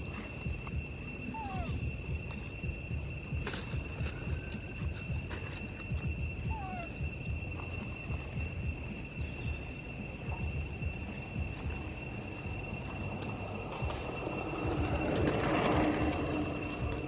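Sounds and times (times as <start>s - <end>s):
high-pitched insect trill: 0.0s - 17.0s
low rumble: 0.0s - 17.0s
rushing noise with low hum: 0.0s - 17.0s.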